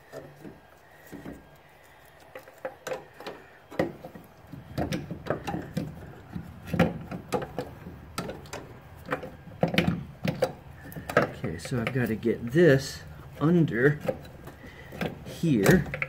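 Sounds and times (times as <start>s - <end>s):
engine mount clunking and scraping: 2.6s - 16.0s.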